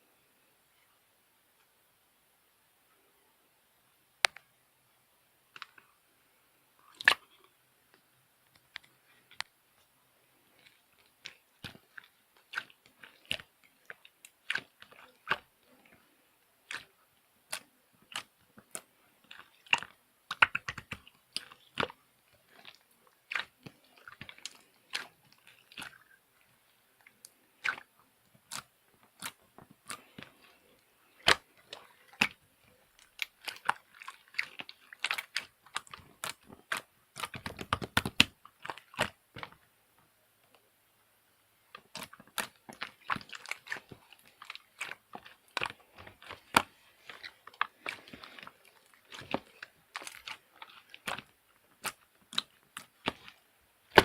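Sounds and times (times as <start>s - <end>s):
crunching clicks and crackles: 6.9s - 40.7s, 41.6s - 54.0s.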